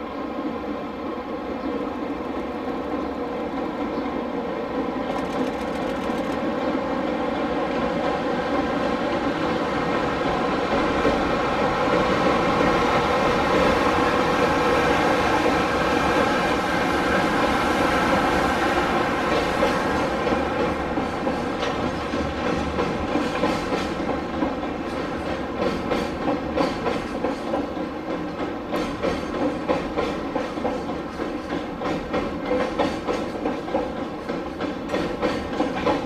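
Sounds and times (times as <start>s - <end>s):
train rumbling across steel bridge: 0.0s - 36.0s.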